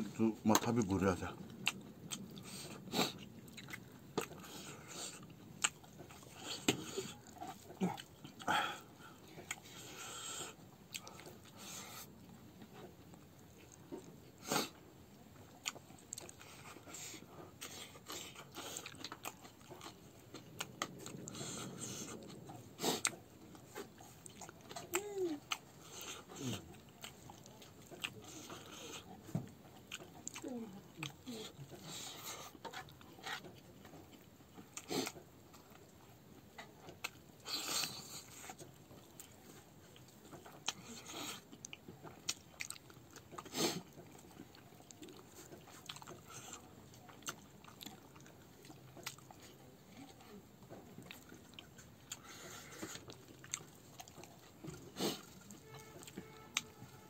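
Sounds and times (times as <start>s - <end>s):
person chewing: 1.4s - 57.0s.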